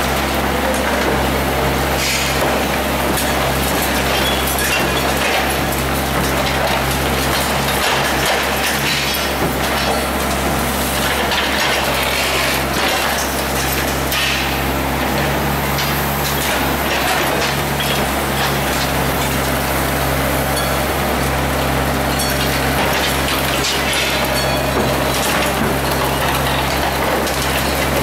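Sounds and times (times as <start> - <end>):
excavator engine and hydraulics: 0.0 - 28.0.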